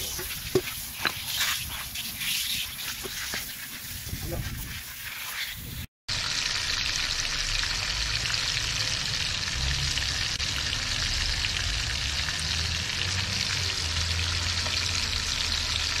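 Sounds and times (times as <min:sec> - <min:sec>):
fish sizzling in a pan: 0:00.0 - 0:16.0.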